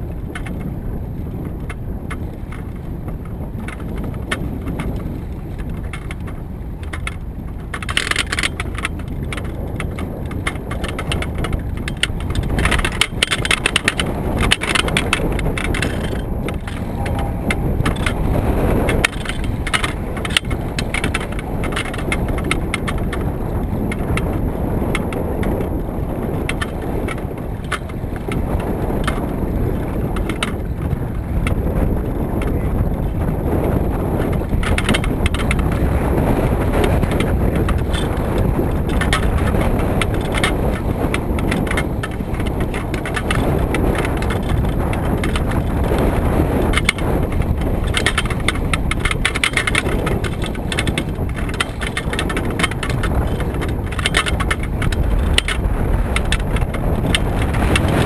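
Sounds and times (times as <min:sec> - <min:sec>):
water splashing against canoe hull: 0:00.0 - 0:58.0
wind rumbling on microphone: 0:00.0 - 0:58.0.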